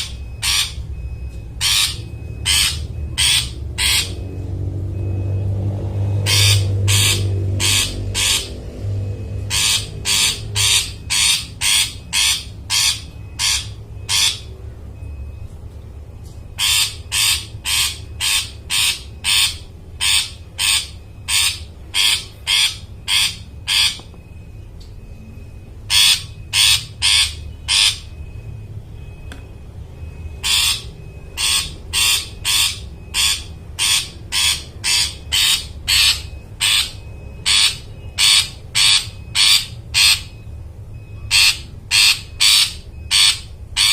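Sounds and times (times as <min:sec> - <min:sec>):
shrike rasping calls: 0:00.0 - 0:15.4, 0:16.5 - 0:24.4, 0:25.1 - 0:43.9.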